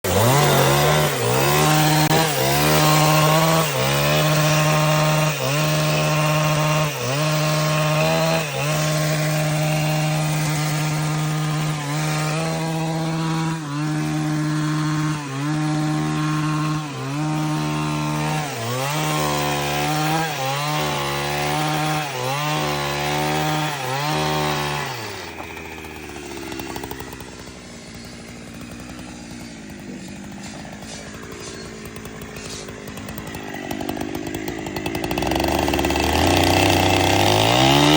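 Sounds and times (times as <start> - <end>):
chainsaw cutting tree trunk: 0.0 - 37.9.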